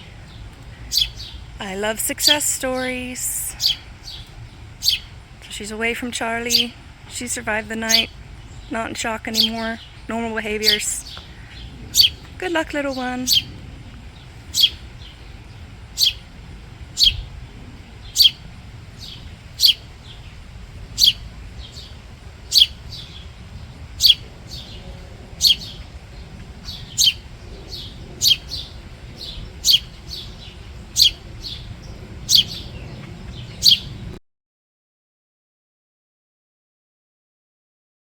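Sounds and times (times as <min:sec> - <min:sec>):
sparrow chirping: 0:00.0 - 0:34.2.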